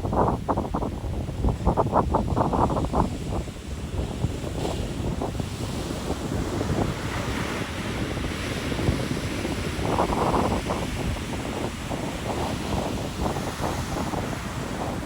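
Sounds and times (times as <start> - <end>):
wind buffeting microphone: 0.0 - 15.0
ocean surf breaking on beach: 0.1 - 15.0.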